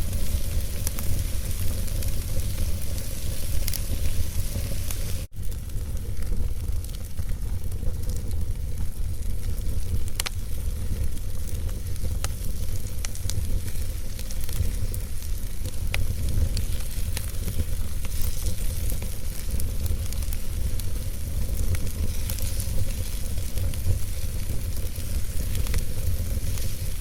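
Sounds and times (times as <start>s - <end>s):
fire rumbling and hissing: 0.0s - 27.0s
logs crackling and popping: 0.0s - 27.0s.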